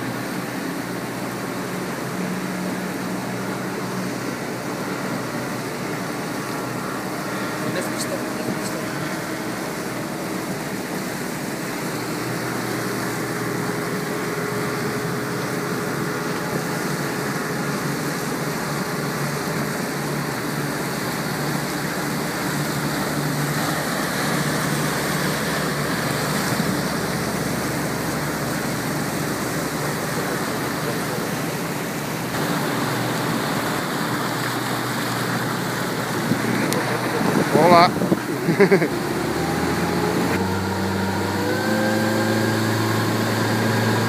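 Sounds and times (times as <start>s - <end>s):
motorboat engines droning: 0.0s - 44.0s
water rushing in wake: 0.0s - 44.0s.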